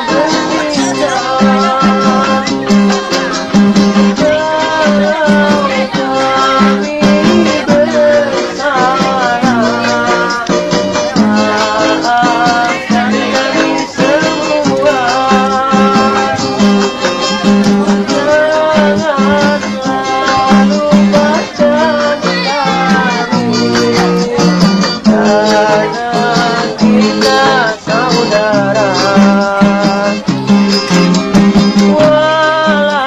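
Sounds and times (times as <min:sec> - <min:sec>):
guitar: 0:00.0 - 0:33.0
person singing a melody: 0:00.0 - 0:33.0
shaker rhythm: 0:00.0 - 0:33.0.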